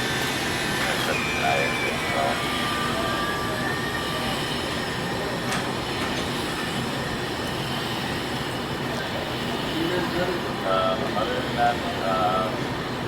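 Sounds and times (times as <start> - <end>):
mechanical rumble and hiss: 0.0 - 13.0.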